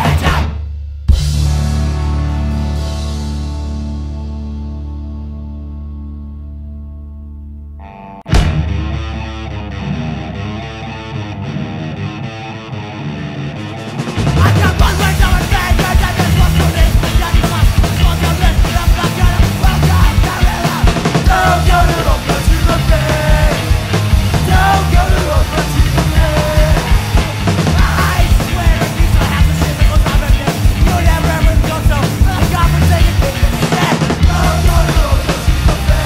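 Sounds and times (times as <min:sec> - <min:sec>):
punk band playing: 0:00.0 - 0:06.4, 0:07.8 - 0:36.0.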